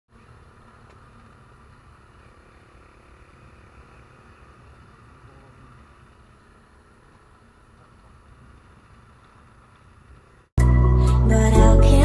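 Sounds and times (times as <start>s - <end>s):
road and wind noise: 0.1s - 10.6s.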